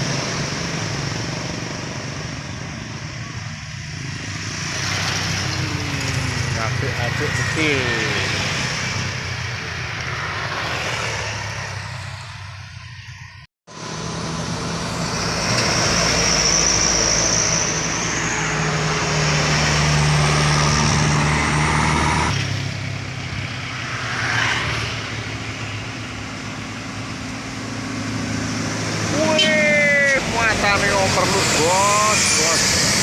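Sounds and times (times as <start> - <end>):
truck diesel engine labouring: 0.0 - 33.0.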